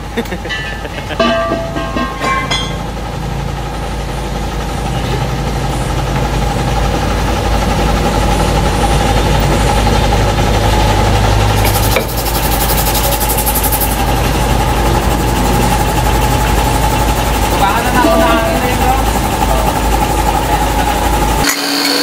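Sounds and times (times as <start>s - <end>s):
engine humming: 0.0s - 21.8s
fast high rattling: 0.5s - 3.3s, 6.5s - 21.5s.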